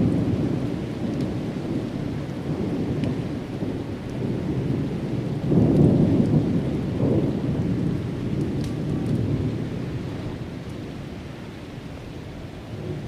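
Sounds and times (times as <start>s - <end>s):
rolling thunder: 0.0s - 10.9s.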